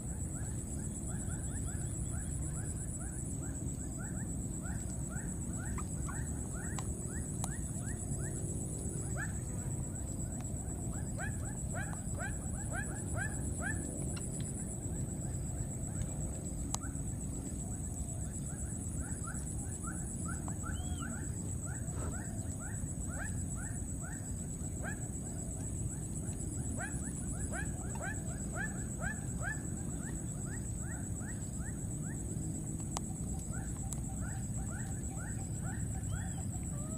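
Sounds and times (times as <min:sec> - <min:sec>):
steady high-pitched whine: 0:00.0 - 0:36.9.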